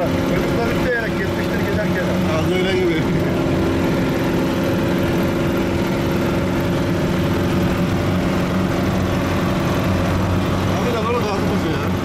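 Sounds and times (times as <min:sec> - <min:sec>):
gravel road rumble: 0:00.0 - 0:12.0
vehicle engine drone: 0:00.0 - 0:12.0.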